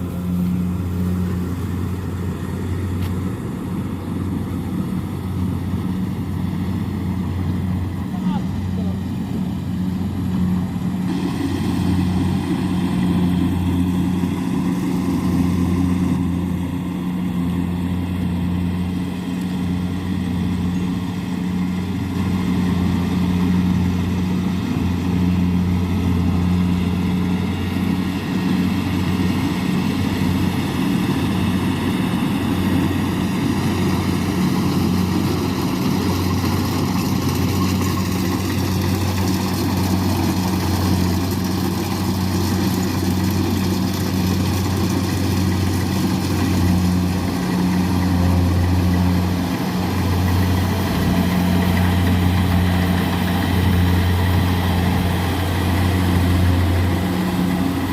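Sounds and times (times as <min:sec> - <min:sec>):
diesel engine droning: 0:00.0 - 0:57.9
harvester machine working: 0:00.0 - 0:57.9.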